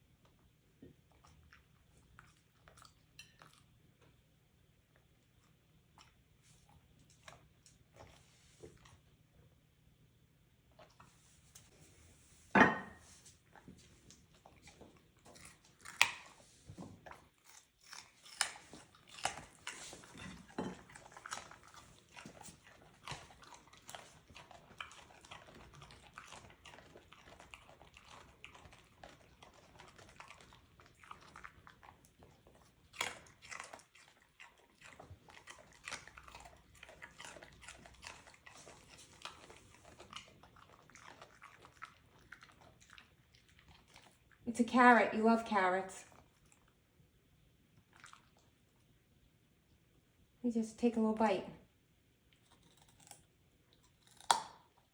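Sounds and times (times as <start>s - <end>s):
dogs chewing and crunching food: 0.0s - 9.6s, 10.6s - 49.0s, 52.2s - 54.9s.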